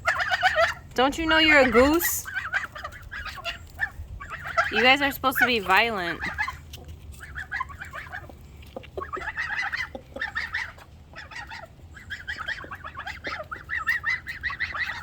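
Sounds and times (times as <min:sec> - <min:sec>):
chickens clucking: 0:00.0 - 0:15.0
geese honking: 0:00.0 - 0:15.0.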